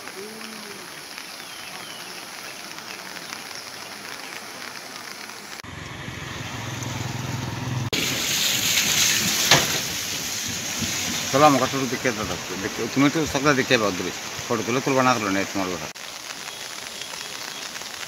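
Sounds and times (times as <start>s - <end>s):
rain and floodwater hiss: 0.0s - 18.0s.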